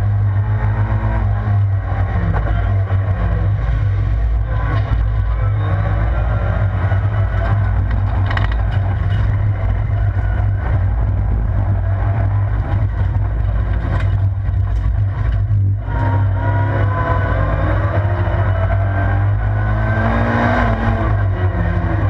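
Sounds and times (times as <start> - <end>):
race car engine droning: 0.0 - 22.0
road and gravel noise: 0.0 - 22.0.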